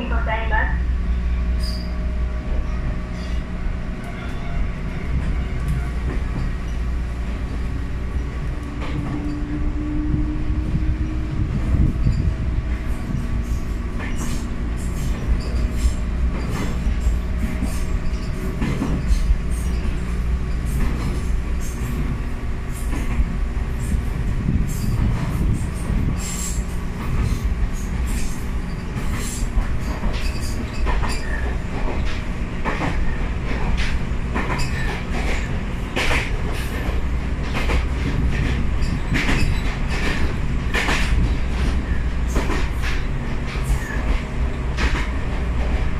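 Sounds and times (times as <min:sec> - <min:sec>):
wheels rumbling on rail: 0:00.0 - 0:45.9
rail joint clicks: 0:01.1 - 0:45.9.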